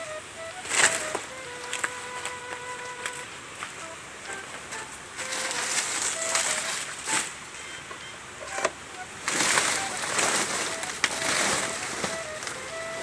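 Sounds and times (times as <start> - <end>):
banana leaves rustling and crackling: 0.0 - 13.0.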